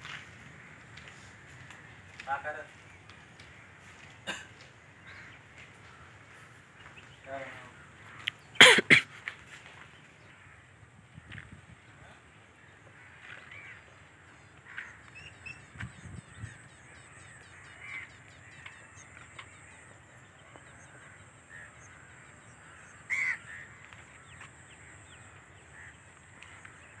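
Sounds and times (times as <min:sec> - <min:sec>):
crows cawing: 0:00.4 - 0:09.4, 0:10.2 - 0:11.4, 0:12.6 - 0:15.7, 0:16.6 - 0:27.0.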